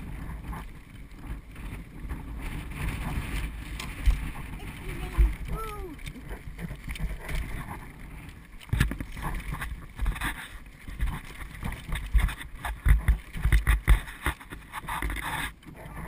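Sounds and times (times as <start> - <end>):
bicycle trailer rolling over asphalt: 0.0 - 16.0.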